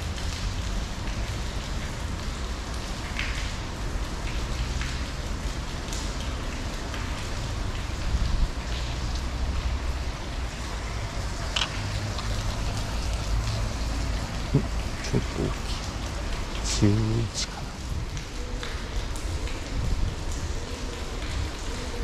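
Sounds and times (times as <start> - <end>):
rain on water and concrete: 0.0 - 22.0.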